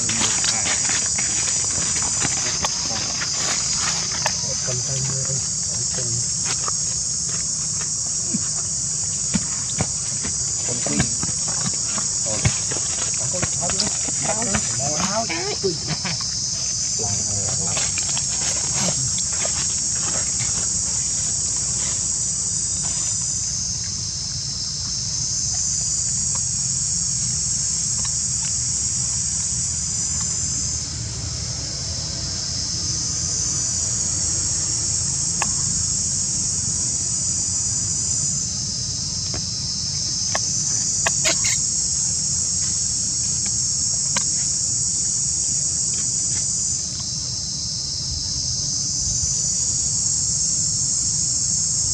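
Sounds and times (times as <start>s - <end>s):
insects calling in chorus: 0.0s - 51.9s.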